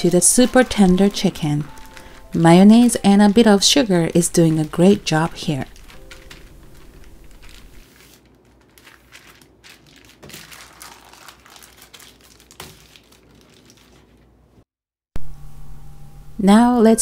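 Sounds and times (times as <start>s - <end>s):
plastic bag crackles: 0.0s - 14.4s
plastic bag crinkling: 0.0s - 14.4s.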